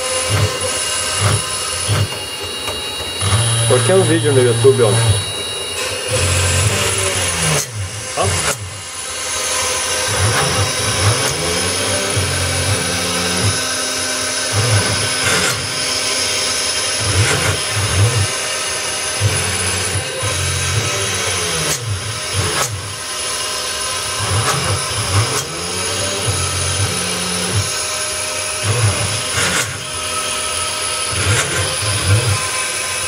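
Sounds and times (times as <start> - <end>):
router spindle milling wood: 0.0 - 33.0
stepper motors humming: 0.0 - 33.0.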